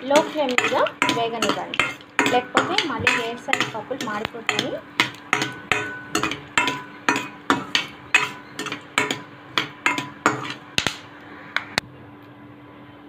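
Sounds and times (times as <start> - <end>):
metal spoon scraping a pan: 0.0 - 11.1
peanuts frying in hot oil: 0.0 - 11.8.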